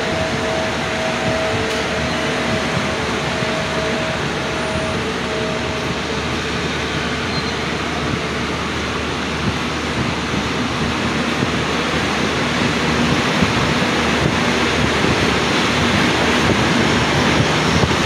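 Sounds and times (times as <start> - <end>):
train wheels rushing on rail: 0.0 - 18.0.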